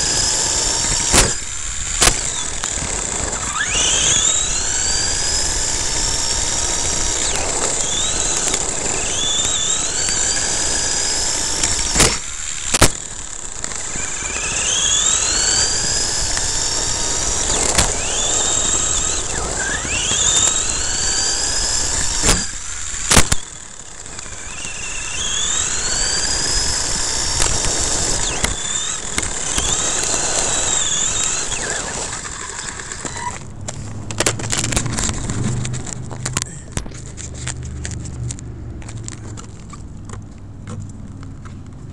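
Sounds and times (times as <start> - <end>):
electric motor whining: 0.0 - 39.8.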